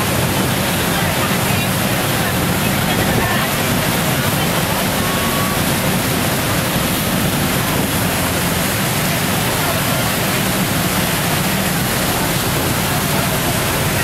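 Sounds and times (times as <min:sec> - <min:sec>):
ferry wake churning: 0:00.0 - 0:14.0.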